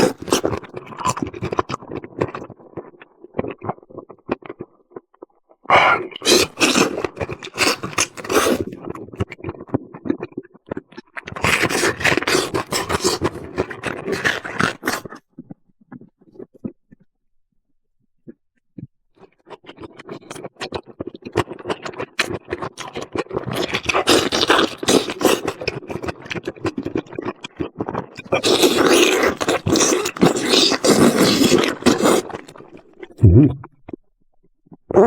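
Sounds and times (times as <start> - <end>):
chewing and crunching food: 0.0 - 17.1, 18.2 - 35.0.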